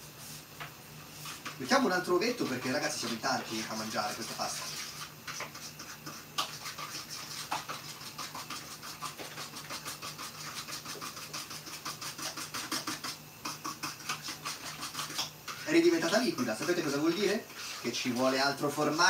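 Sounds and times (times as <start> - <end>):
whisk scraping plastic bowl: 1.2 - 19.0.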